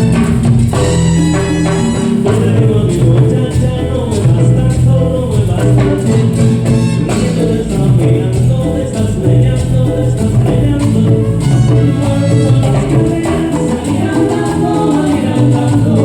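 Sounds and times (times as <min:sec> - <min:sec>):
latin dance band music: 0:00.0 - 0:16.0.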